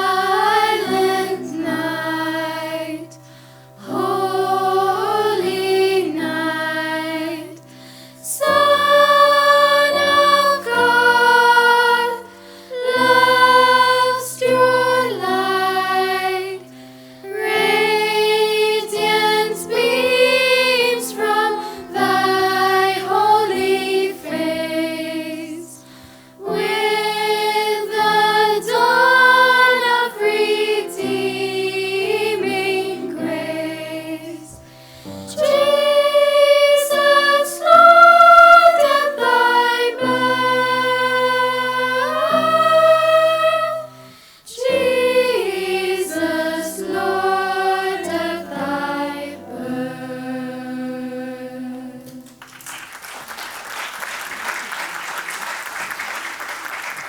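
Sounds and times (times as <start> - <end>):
choir singing held chords: 0.0 - 52.4.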